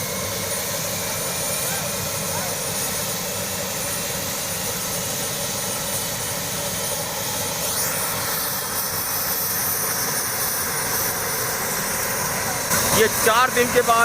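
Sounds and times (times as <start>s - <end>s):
helicopter turbine and rotor: 0.0s - 14.0s.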